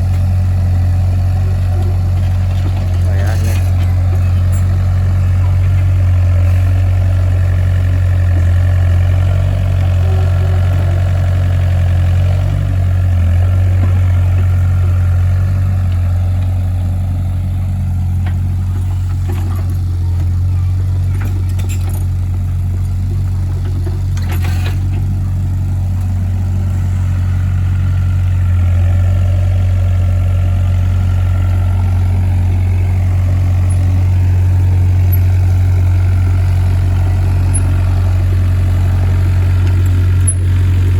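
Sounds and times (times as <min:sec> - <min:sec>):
heavy engine droning: 0:00.0 - 0:40.9.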